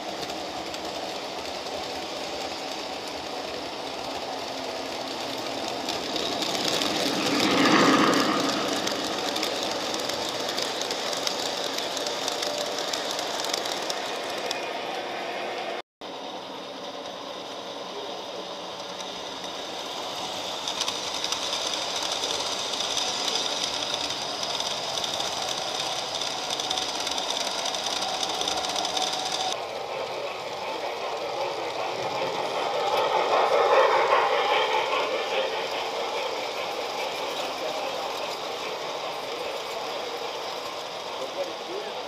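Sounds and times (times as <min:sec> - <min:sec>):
model trains whirring and rattling: 0:00.0 - 0:42.0.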